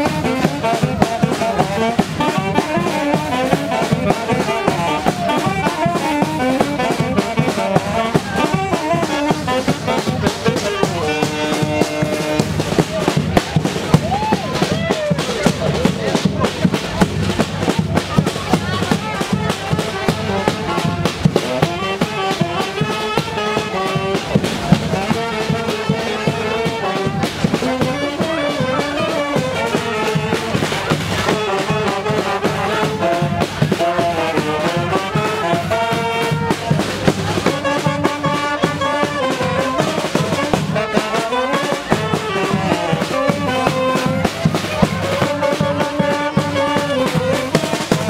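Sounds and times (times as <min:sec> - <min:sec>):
brass band playing: 0:00.0 - 0:48.0
drums: 0:00.0 - 0:48.0
trumpets and trombones: 0:00.0 - 0:48.0.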